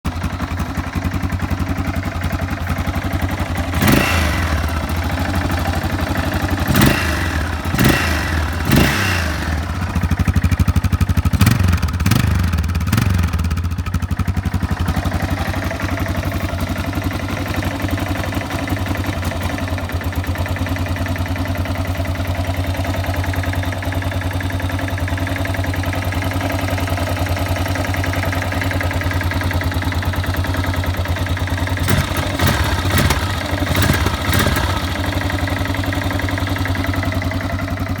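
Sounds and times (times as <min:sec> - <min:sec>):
motorcycle engine idling and revving: 0:00.0 - 0:38.0.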